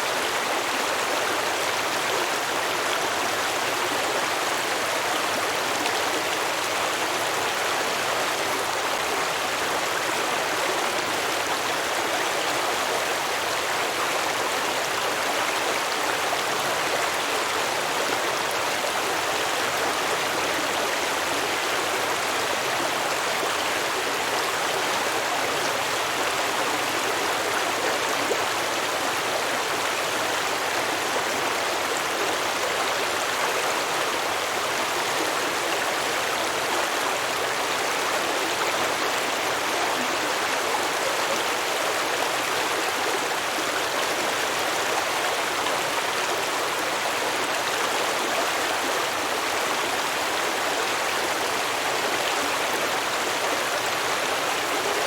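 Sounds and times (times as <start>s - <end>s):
stream babbling over rocks: 0.0s - 55.0s.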